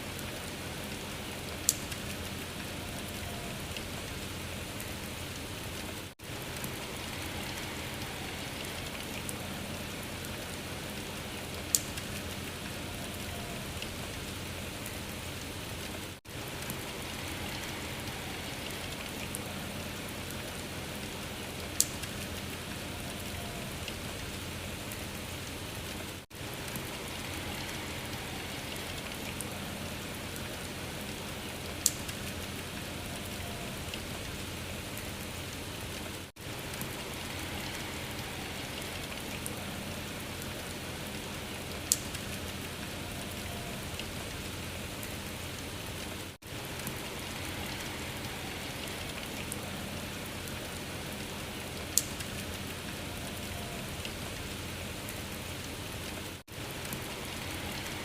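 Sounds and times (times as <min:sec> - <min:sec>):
rain-like hiss and patter: 0:00.0 - 0:58.0.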